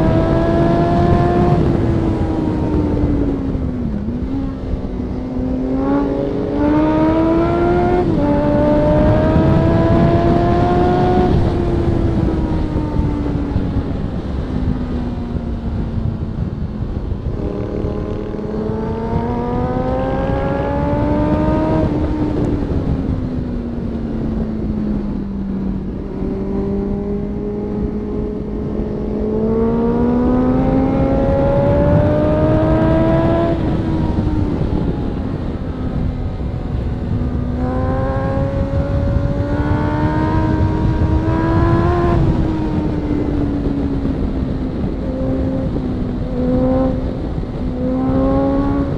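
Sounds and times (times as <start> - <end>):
motorcycle engine revving: 0.0 - 48.9
wind rush: 0.0 - 48.9.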